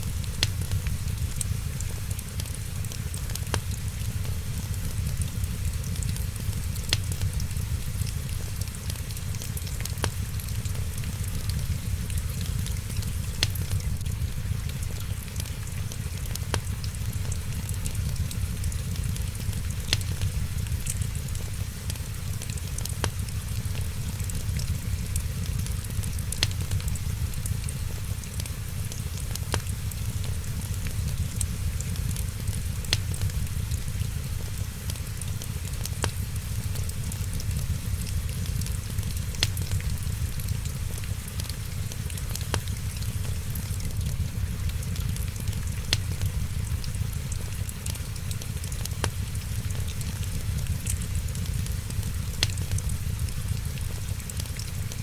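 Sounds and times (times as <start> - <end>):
rain hissing: 0.0 - 55.0
wood fire crackling: 0.0 - 55.0.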